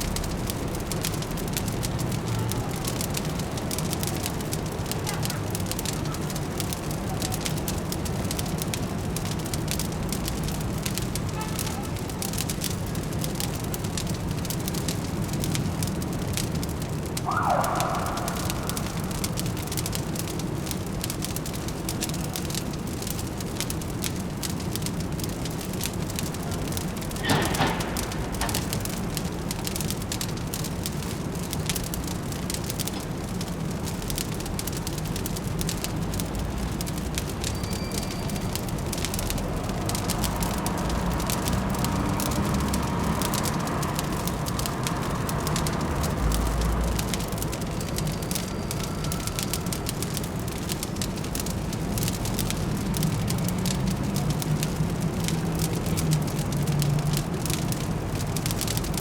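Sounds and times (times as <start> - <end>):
distant city traffic hum: 0.0 - 59.0
fire crackling: 0.0 - 59.0.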